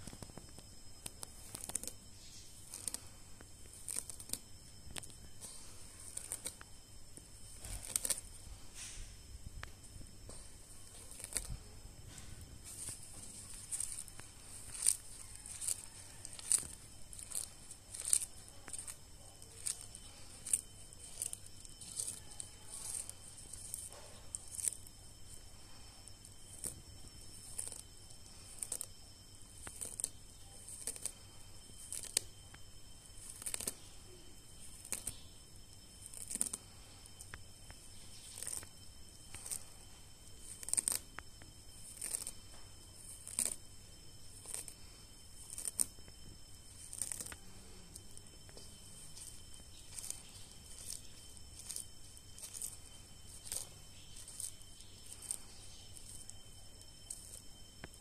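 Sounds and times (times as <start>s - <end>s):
tortoise crunching leaves: 0.0s - 58.0s.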